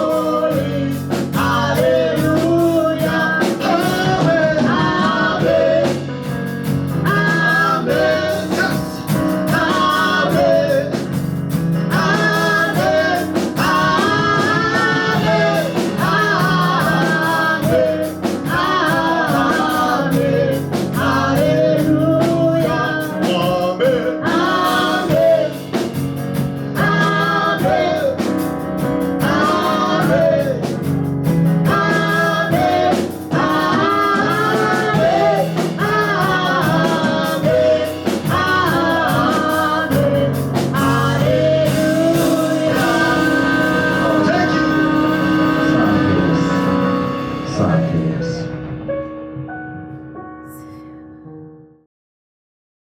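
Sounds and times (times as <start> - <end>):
voices singing: 0.0 - 48.8
instrumental accompaniment: 0.0 - 50.5.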